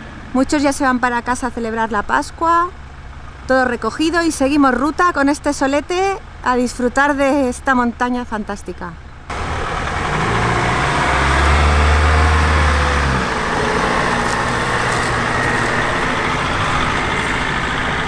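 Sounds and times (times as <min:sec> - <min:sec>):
tyre and road noise: 0:00.0 - 0:18.0
vehicle engine running: 0:00.0 - 0:18.0.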